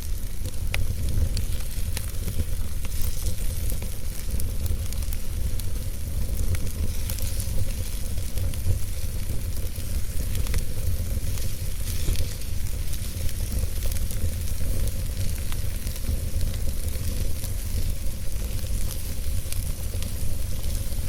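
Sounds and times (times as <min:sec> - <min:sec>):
logs burning in a fireplace: 0:00.0 - 0:21.0.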